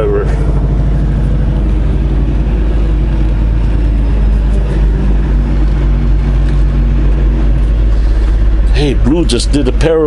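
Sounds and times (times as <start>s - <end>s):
truck diesel engine humming: 0.0s - 10.0s.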